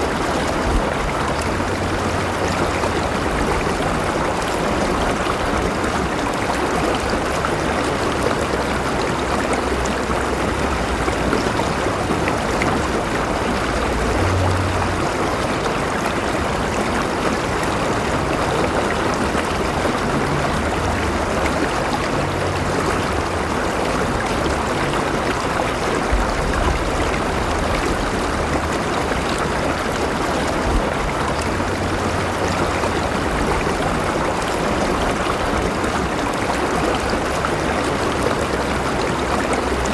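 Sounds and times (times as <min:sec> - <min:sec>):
river rushing and gurgling: 0:00.0 - 0:39.9.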